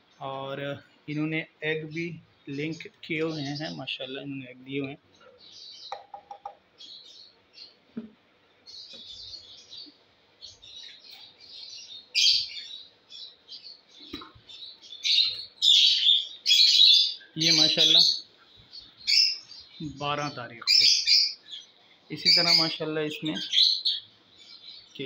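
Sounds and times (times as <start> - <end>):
lovebirds chirping: 0.0 - 25.0.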